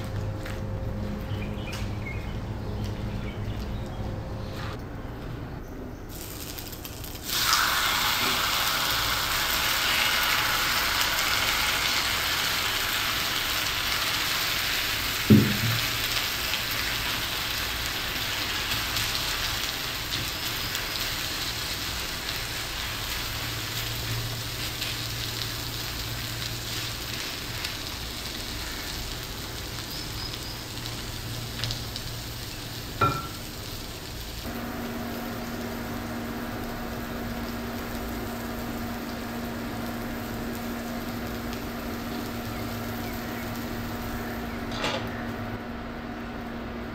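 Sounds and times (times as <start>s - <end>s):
omelette sizzling in oil: 6.1s - 44.5s.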